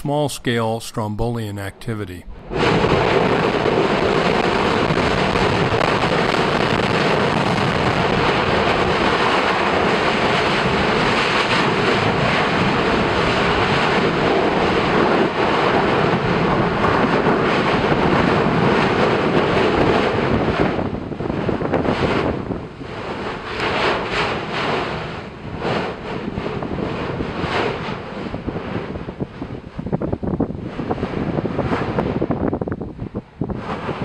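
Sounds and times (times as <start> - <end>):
volcano roaring: 2.3 - 34.0.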